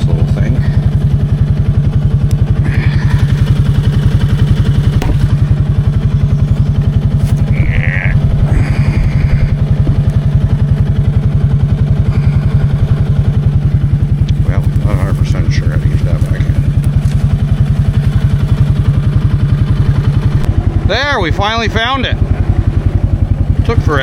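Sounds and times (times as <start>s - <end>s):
atv engine running: 0.0s - 24.0s.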